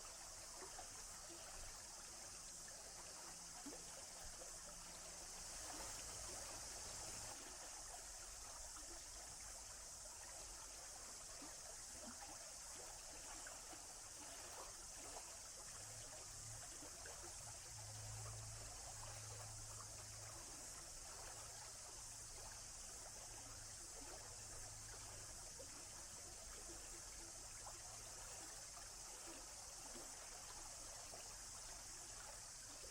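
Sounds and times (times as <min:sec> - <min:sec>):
stream trickling over stones: 0:00.0 - 0:32.9.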